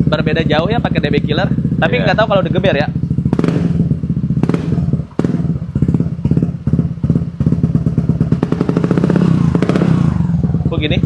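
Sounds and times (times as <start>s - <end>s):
scooter engine exhaust pulsing: 0.0s - 11.0s.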